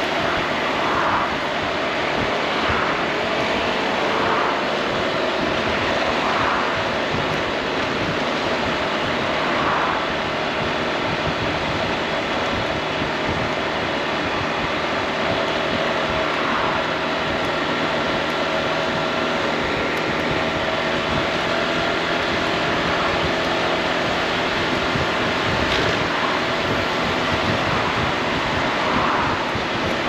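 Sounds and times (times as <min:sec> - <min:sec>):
scooter engine hum: 0:00.0 - 0:30.0
wind and road noise: 0:00.0 - 0:30.0.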